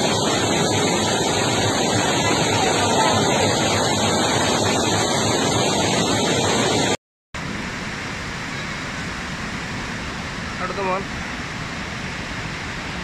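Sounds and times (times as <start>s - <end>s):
heavy rain pouring: 0.0s - 13.0s
rush of water: 0.0s - 13.0s.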